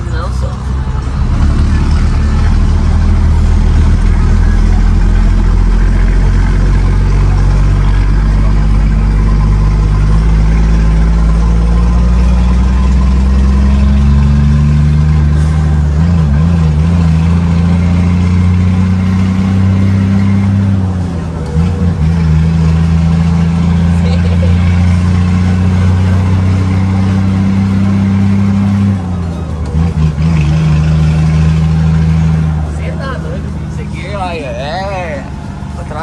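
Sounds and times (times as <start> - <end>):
diesel truck engine from cab: 0.0 - 36.0.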